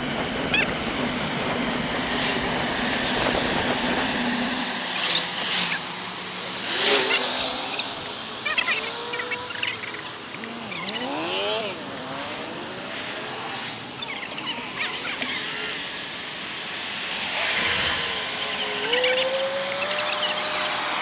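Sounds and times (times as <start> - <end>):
passing traffic whooshes: 0.0 - 21.0
wind and road noise: 0.0 - 21.0.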